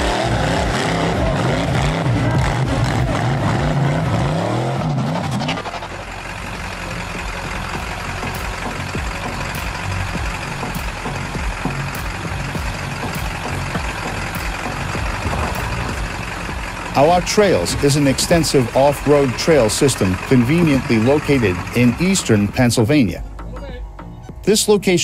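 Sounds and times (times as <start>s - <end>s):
buggy engine revving: 0.0s - 25.0s
pickup engine running steadily: 0.0s - 25.0s.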